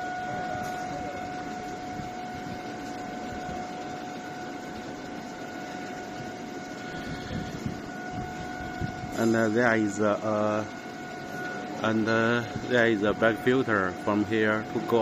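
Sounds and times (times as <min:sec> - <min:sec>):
constant high whine: 0:00.0 - 0:15.0
factory machinery hum and rumble: 0:00.0 - 0:15.0.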